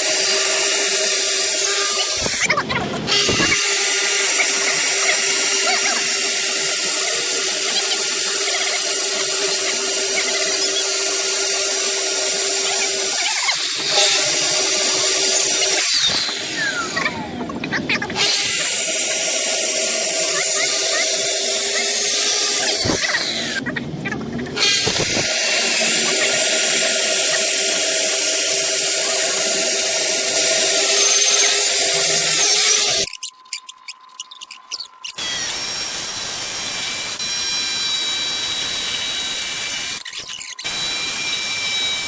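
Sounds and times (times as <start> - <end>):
woodworking power tool whining: 0.0 - 33.4, 34.7 - 42.0
tool with higher whine: 0.0 - 42.0.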